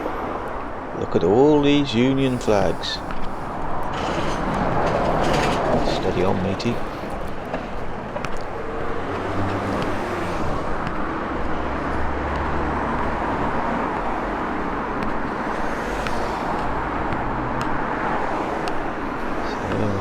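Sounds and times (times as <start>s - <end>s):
car engines and tyres: 0.0s - 20.0s
heavy engine rumble passing: 2.2s - 20.0s.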